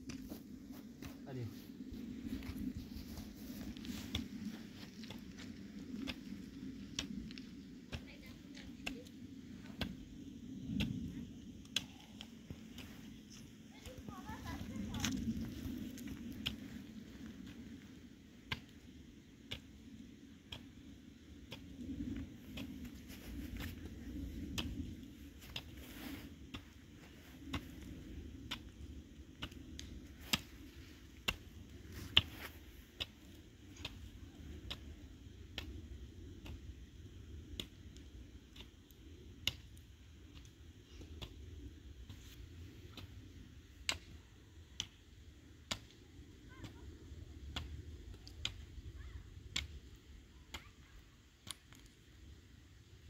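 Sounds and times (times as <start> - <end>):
low steady rumble: 0.0 - 50.4.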